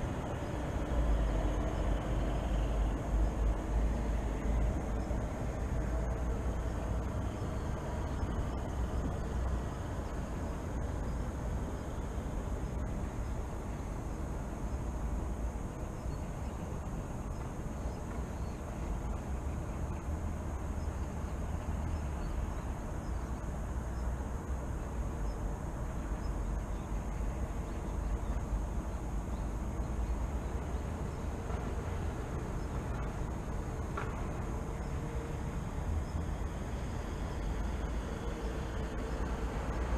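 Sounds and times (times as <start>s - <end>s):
distant city traffic rumble: 0.0s - 39.9s.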